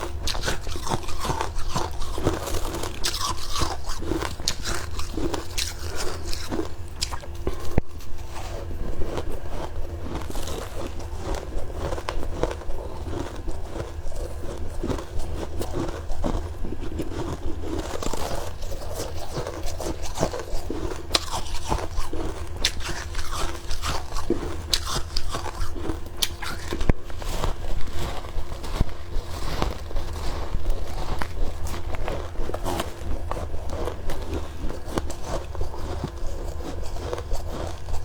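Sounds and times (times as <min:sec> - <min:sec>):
crunchy chewing of frost: 0:00.0 - 0:38.0.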